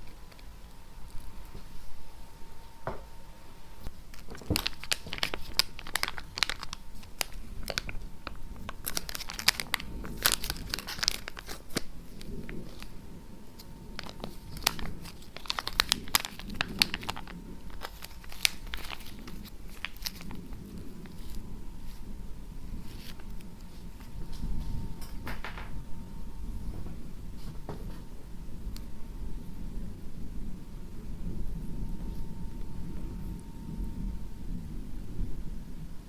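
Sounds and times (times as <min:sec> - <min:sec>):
crackling and scratching: 0:00.0 - 0:29.9.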